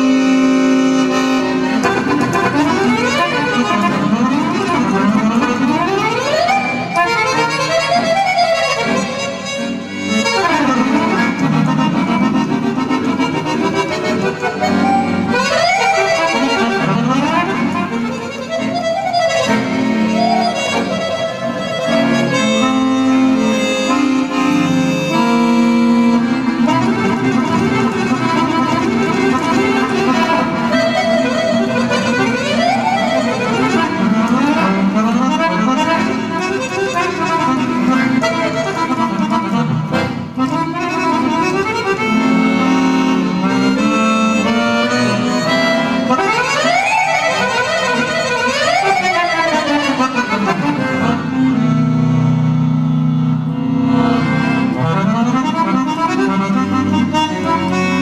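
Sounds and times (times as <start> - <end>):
accordion melody: 0.0 - 58.0.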